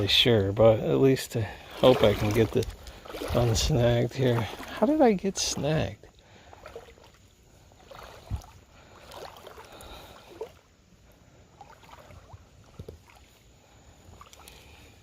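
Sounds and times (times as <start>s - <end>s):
river water sloshing: 0.0s - 15.0s.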